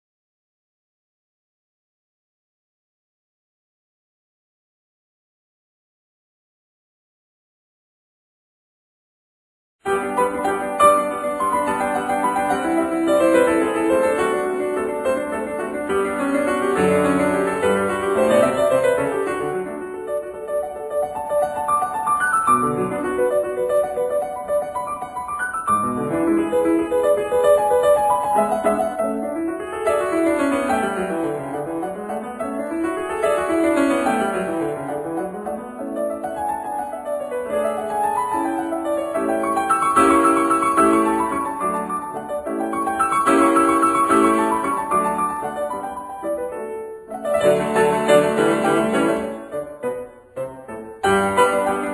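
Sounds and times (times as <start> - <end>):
gentle piano melody: 9.9 - 51.9.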